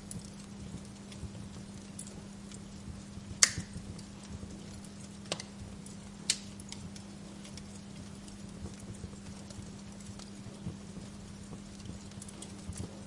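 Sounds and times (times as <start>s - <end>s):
sharp pops of fire: 0.0s - 13.0s
steady low hum: 0.0s - 13.0s
wood fire crackling: 0.0s - 13.0s.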